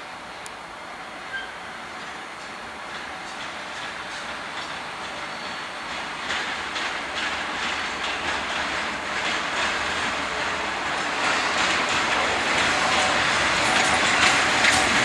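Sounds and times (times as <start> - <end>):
train passing: 0.0 - 15.0
wheels clicking over rail joints: 2.4 - 15.0.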